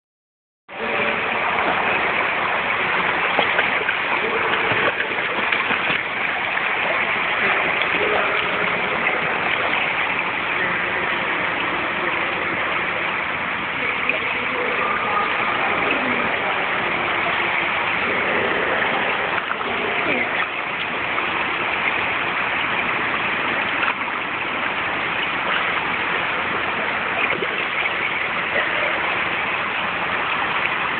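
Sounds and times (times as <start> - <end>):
faint voices: 0.7 - 24.4, 25.2 - 30.9
water rushing in a pool: 0.7 - 30.9.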